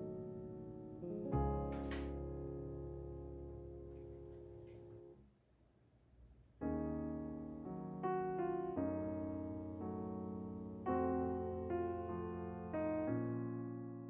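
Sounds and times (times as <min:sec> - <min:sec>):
soft piano chords: 0:00.0 - 0:05.2, 0:06.6 - 0:14.0.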